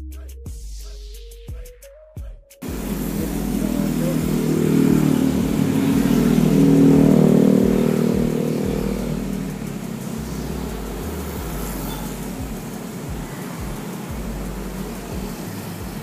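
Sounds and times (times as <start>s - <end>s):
motorcycle engine running: 2.6s - 16.0s.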